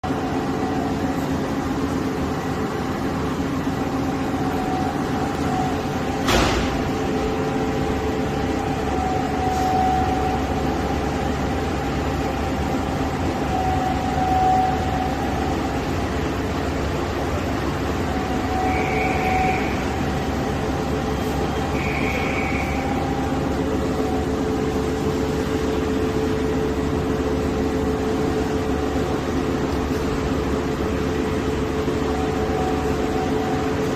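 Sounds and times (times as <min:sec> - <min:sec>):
machine mechanical hum: 0:00.0 - 0:33.9
machine whining tones: 0:00.0 - 0:33.9.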